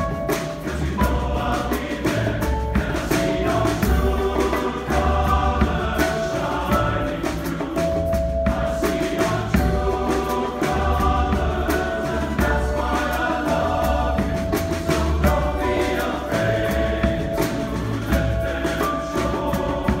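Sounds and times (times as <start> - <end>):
drum kit: 0.0 - 20.0
light percussion: 0.0 - 20.0
male choir singing harmonies: 0.0 - 20.0
upright bass: 0.0 - 20.0.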